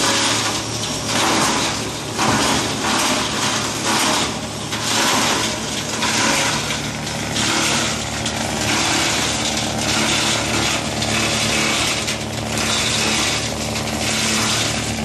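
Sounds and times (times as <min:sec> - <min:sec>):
machine grinding cloth: 0:00.0 - 0:15.0
motor hum: 0:00.0 - 0:15.0.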